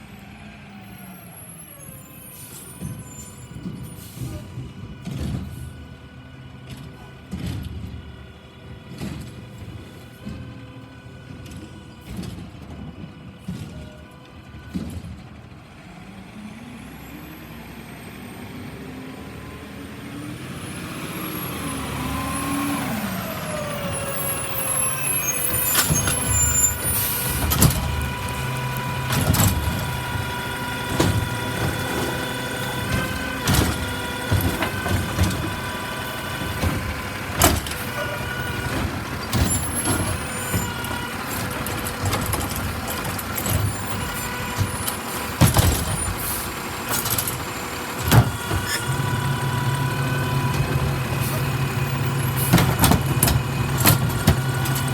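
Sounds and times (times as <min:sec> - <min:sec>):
truck engine and hydraulics whine: 0:00.0 - 0:54.9.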